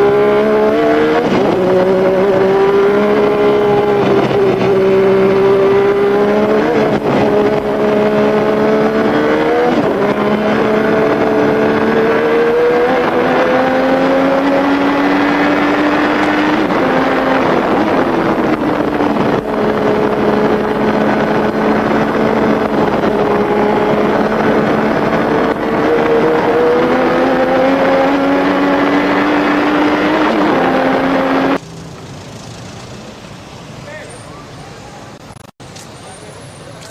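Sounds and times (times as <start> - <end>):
racing car engine: 0.0 - 34.3.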